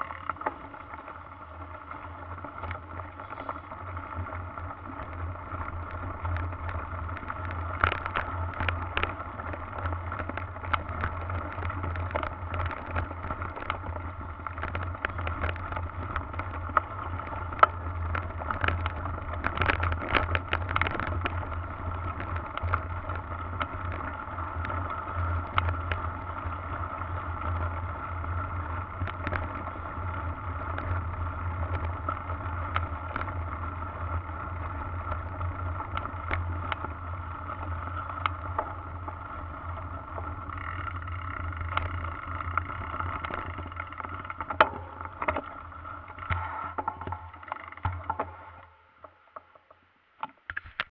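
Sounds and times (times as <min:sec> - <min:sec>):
bike knocks and rattles: 0:01.8 - 0:50.8.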